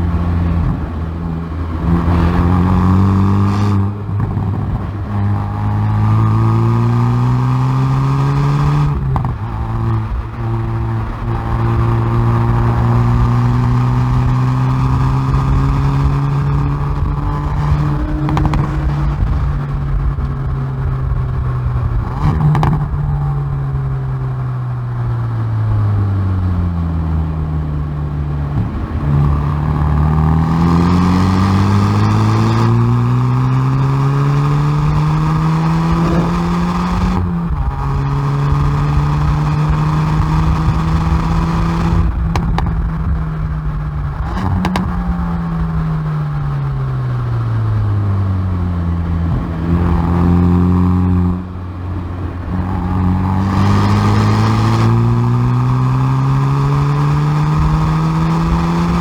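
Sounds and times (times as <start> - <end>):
exhaust cracks: 0.0 - 7.1, 8.6 - 59.0
car exhaust revving: 0.0 - 59.0.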